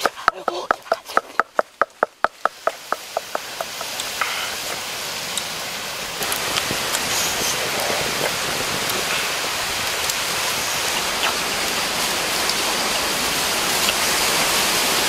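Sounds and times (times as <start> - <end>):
water boiling hard: 0.0 - 15.0.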